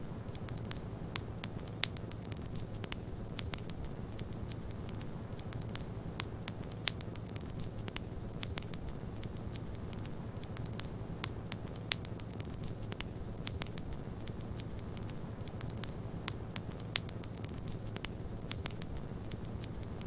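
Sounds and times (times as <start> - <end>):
wood fire crackling: 0.0 - 20.0
sharp pops of fire: 0.3 - 20.0.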